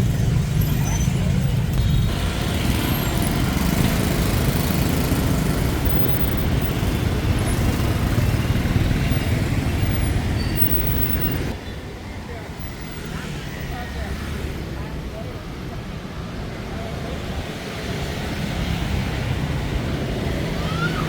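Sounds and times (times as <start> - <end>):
city street traffic with motorbikes: 0.0 - 21.0.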